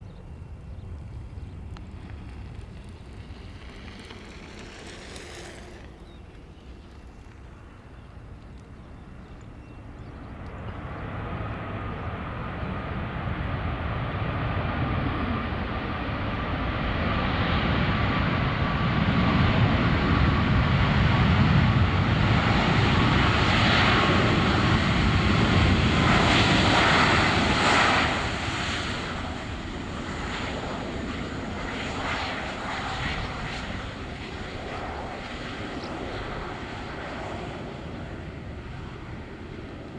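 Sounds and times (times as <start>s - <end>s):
faint engine whine: 0.0s - 39.9s
jet engines roaring: 0.1s - 39.9s.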